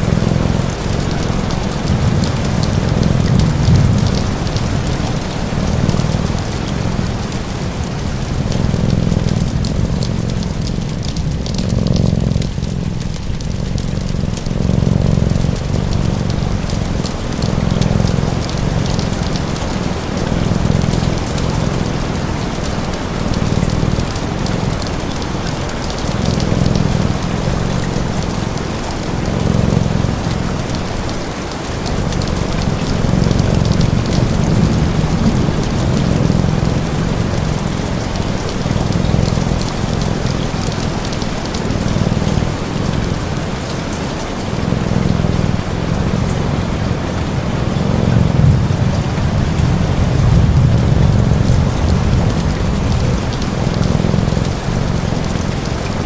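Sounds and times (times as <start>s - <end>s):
cat purring: 0.0s - 56.0s
steady rain hissing: 0.0s - 56.0s.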